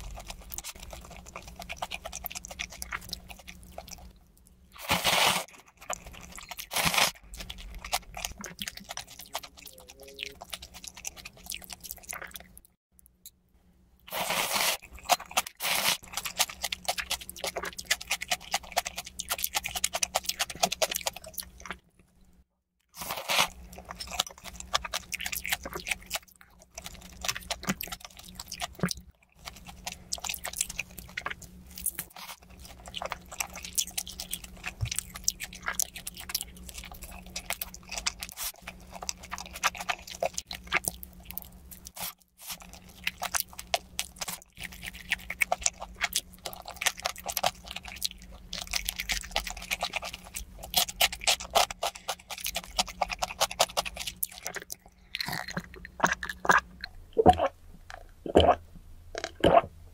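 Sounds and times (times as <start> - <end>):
crunchy eating and chewing: 0.0 - 12.8, 14.1 - 59.8.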